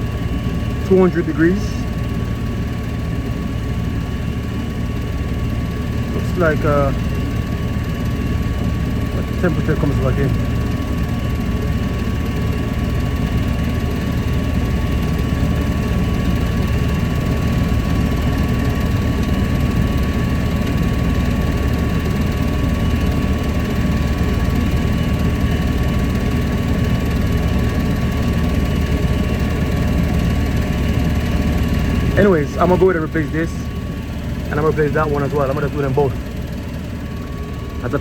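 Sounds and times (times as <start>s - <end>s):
furnace rumbling with blower fan: 0.0s - 38.0s
thin steady whine: 0.0s - 38.0s.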